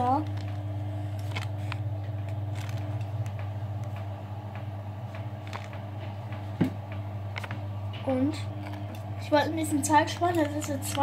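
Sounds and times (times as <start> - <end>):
washing machine drum motor running: 0.0 - 11.0.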